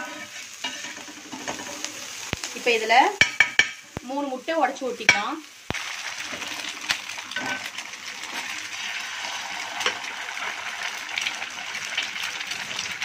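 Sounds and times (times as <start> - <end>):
eggs and onions sizzling on griddle: 0.0 - 13.0.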